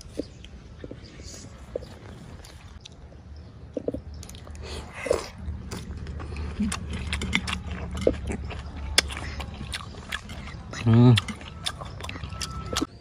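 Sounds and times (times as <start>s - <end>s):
man chewing with wet mouth clicks: 0.0s - 13.0s.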